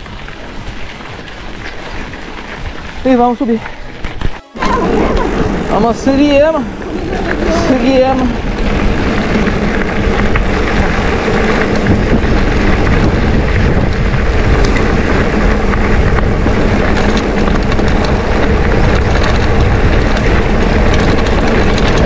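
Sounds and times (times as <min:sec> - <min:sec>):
grit ticking under tyres: 0:00.0 - 0:22.0
wind rumble on microphone: 0:00.0 - 0:22.0.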